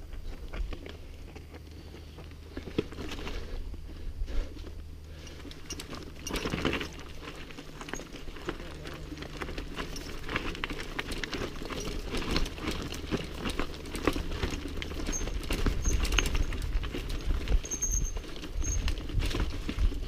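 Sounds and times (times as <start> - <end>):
tyres crunching over rocks: 0.0 - 3.9, 4.5 - 20.0
bike clattering and rattling: 0.2 - 20.0.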